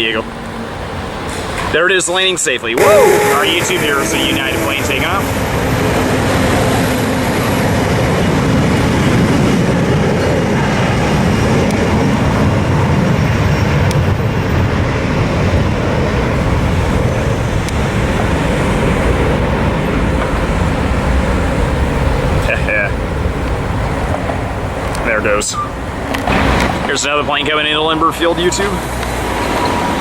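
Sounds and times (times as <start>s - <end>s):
jet engines at takeoff thrust: 0.3s - 30.0s.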